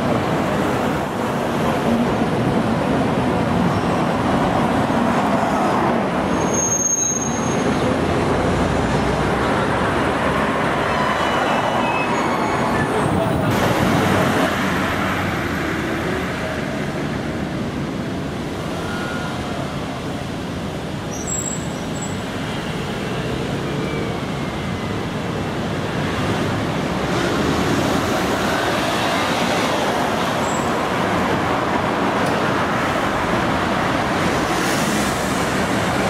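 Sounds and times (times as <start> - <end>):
street traffic: 0.0 - 36.0
tram running on track: 0.0 - 36.0.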